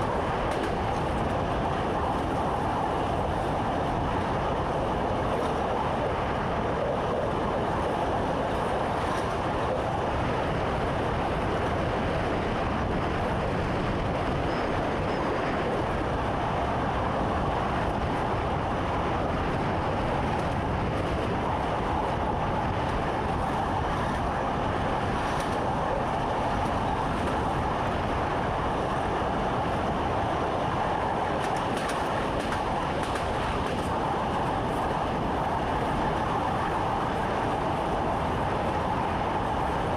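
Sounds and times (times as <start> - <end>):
electric train rumble and rail noise: 0.0 - 39.9.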